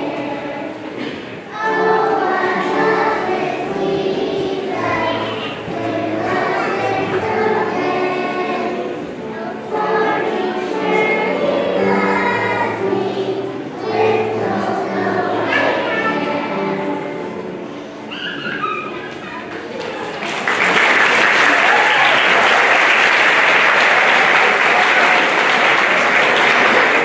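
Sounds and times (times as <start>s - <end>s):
children's choir singing: 0.0s - 27.0s.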